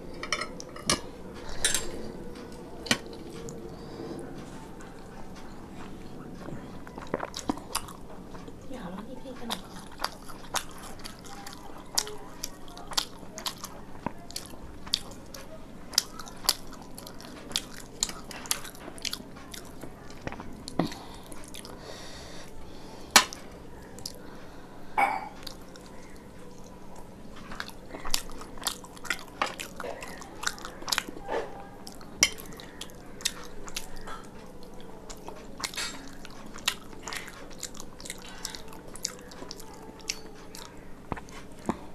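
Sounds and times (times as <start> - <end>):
person chewing food: 0.0 - 8.6, 9.3 - 41.9.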